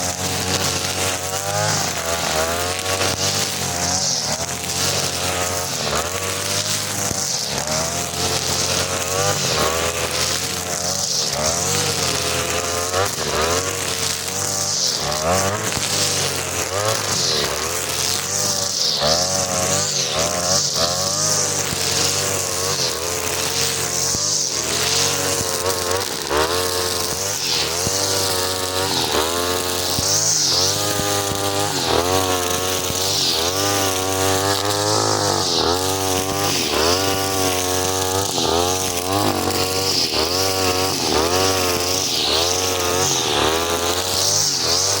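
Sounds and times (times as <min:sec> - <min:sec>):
brush cutter cutting grass: 0:00.0 - 0:45.0.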